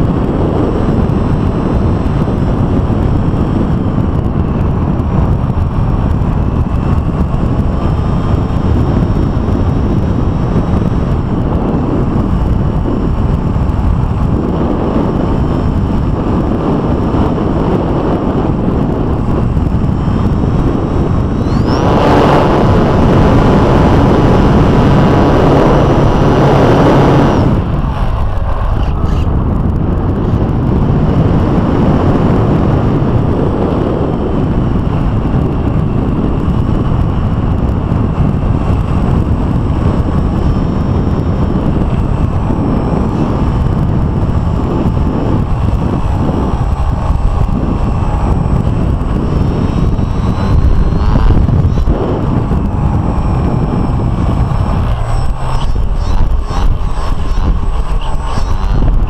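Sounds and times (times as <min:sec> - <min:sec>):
electric motor and propeller whine: 0:00.0 - 0:59.0
wind buffeting microphone: 0:00.0 - 0:59.0.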